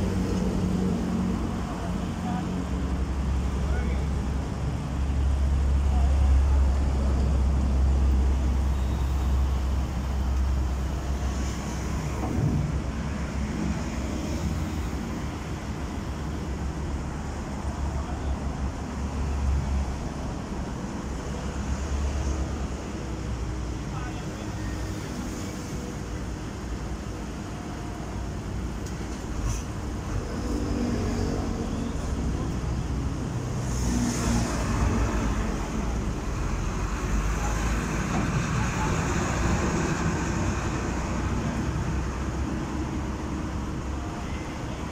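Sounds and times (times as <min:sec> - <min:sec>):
excavator diesel engine rumbling: 0:00.0 - 0:44.9.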